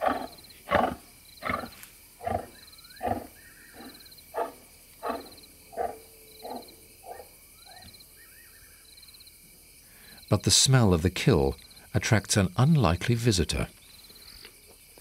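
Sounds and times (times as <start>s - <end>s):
faint crickets chirping: 0.0s - 15.0s.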